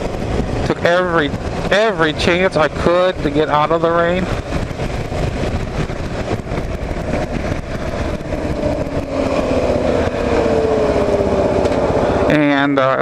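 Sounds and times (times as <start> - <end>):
motorcycle engine running: 0.0 - 12.6
wind noise: 0.0 - 13.0.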